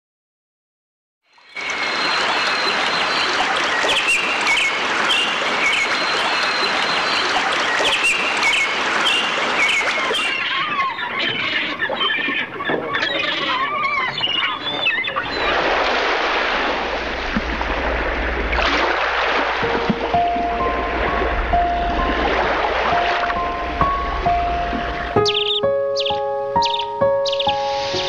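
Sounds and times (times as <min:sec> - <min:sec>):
low curving bird calls: 0:01.4 - 0:28.0
birds chirping and whistling: 0:01.6 - 0:15.7, 0:19.6 - 0:28.0.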